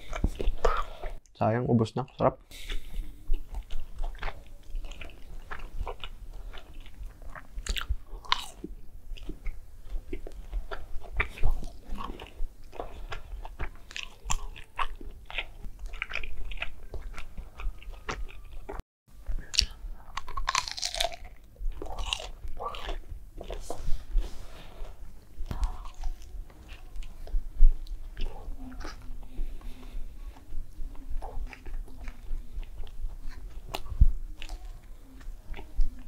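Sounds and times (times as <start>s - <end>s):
person chewing crunchy food: 0.0s - 1.2s, 2.6s - 36.0s.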